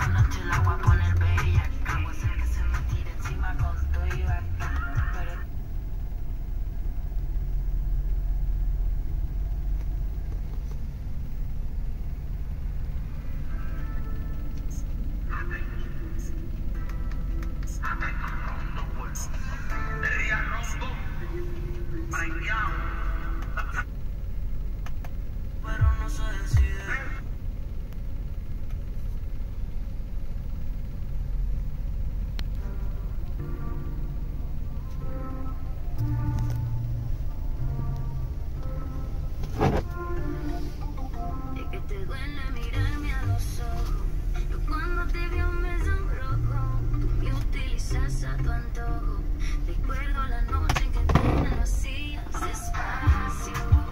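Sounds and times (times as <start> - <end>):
pickup engine idling: 0.0 - 53.9.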